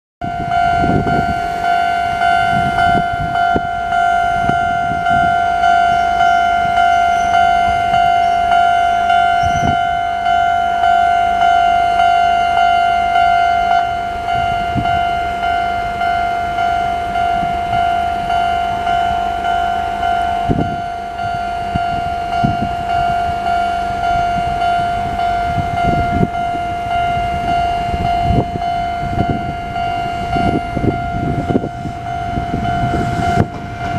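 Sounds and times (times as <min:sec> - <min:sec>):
level-crossing warning bell: 0:00.2 - 0:33.9.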